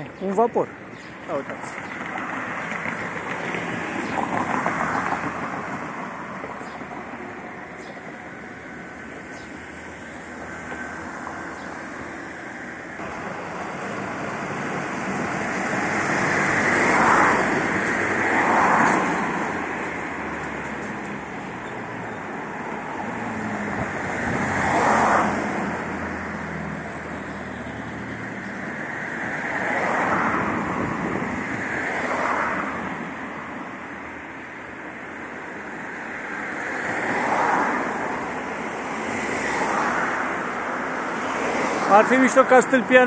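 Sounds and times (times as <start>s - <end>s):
cars driving past: 0.0s - 43.0s
traffic hum: 0.0s - 43.0s.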